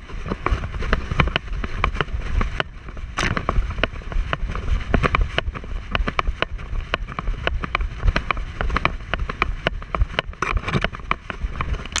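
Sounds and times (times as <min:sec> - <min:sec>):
wind rumble on microphone: 0:00.0 - 0:12.0
camera jostling knocks and clicks: 0:00.2 - 0:12.0.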